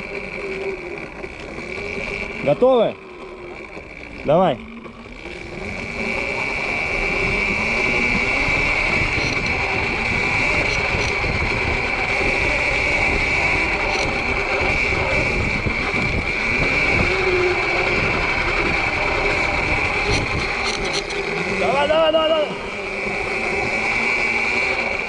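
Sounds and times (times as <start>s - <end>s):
electric motorbike whine: 0.0s - 25.0s
wind and terrain rumble: 0.0s - 25.0s.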